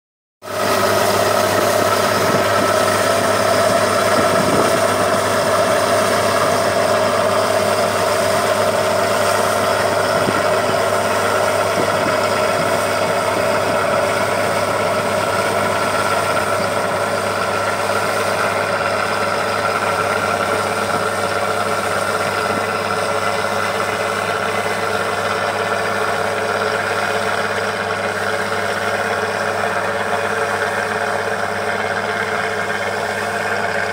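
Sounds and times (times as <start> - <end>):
combine harvester running: 0.4 - 33.9.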